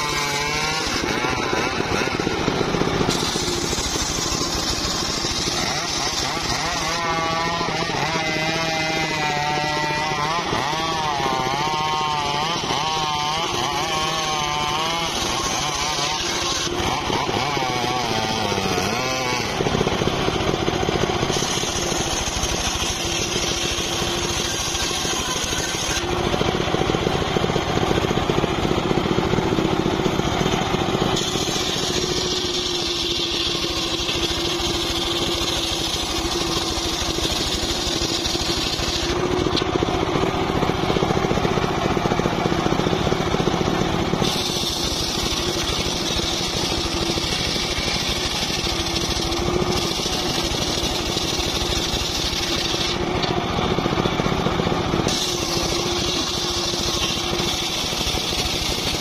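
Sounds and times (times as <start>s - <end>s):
table saw cutting wood: 0.0s - 59.0s.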